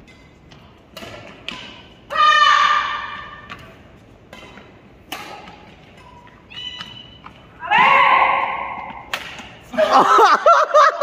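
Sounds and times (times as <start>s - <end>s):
rackets striking shuttlecock: 0.0s - 9.7s.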